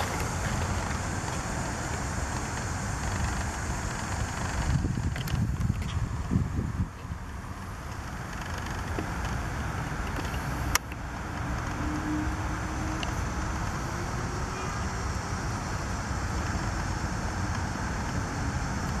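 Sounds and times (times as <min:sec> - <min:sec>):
outdoor background rumble: 0:00.0 - 0:19.0
steady hiss: 0:00.0 - 0:19.0.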